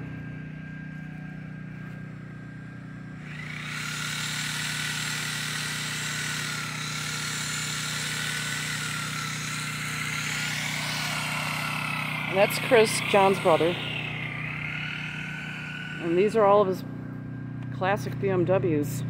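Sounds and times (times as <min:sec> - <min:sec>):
engine high whine: 0:00.0 - 0:19.0
small engine humming: 0:00.0 - 0:19.0.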